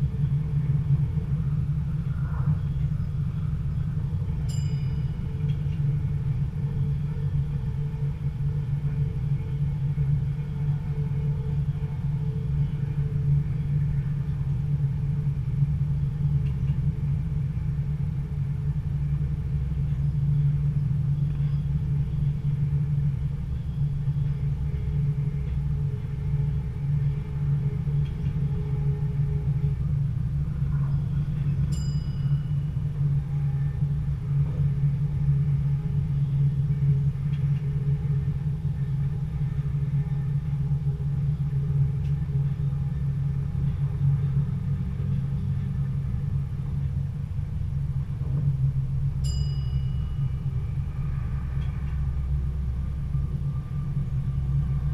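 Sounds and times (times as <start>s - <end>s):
train engine and wheels rumbling: 0.0s - 54.9s.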